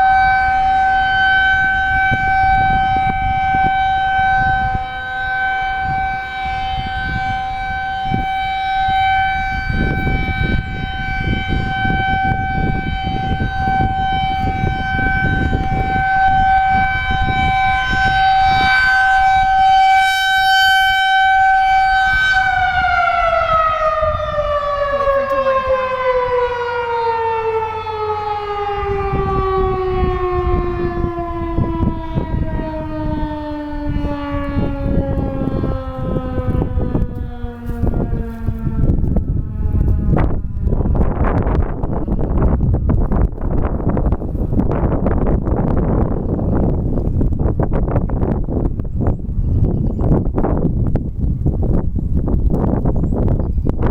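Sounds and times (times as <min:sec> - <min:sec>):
siren winding down: 0:00.0 - 0:47.1
warning siren steady tone: 0:00.0 - 0:53.9.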